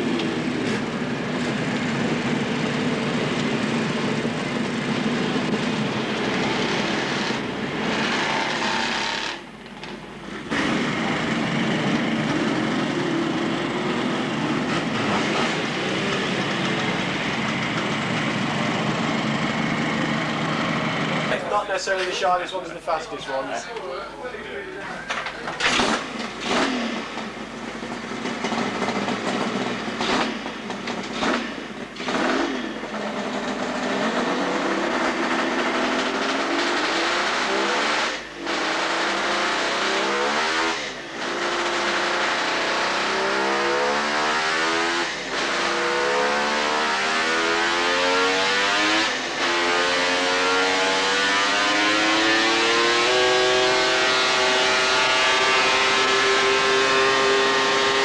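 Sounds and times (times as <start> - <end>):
motorcycle engine revving: 0.0 - 9.5, 10.3 - 21.4, 25.6 - 58.0.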